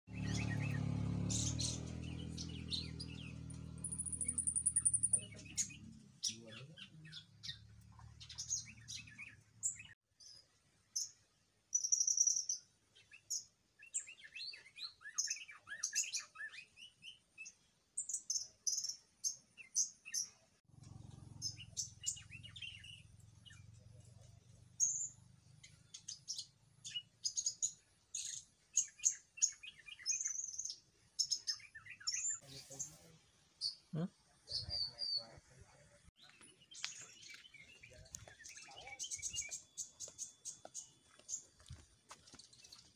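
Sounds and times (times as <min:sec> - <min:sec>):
small birds chirping and trilling: 0:00.1 - 0:42.9.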